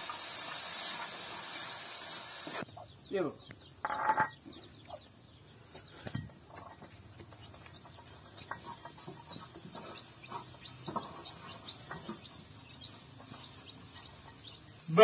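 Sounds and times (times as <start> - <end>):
small birds chirping: 2.5 - 15.0.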